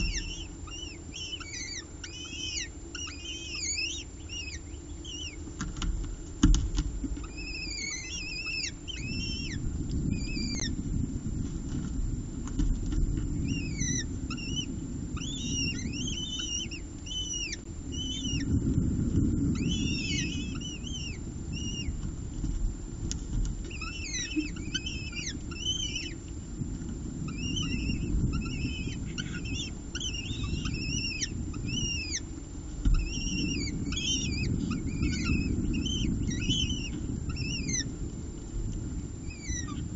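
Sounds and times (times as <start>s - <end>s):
falcon chicks cheeping: 0.0s - 5.6s, 6.4s - 10.8s, 13.0s - 18.6s, 19.5s - 22.1s, 23.6s - 26.4s, 27.2s - 37.9s, 39.2s - 39.9s
steady low rumble: 0.0s - 39.9s.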